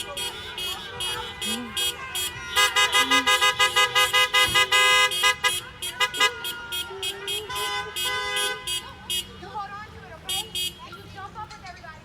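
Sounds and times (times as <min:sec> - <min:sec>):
car horns honking: 0:00.0 - 0:09.6, 0:10.2 - 0:11.1.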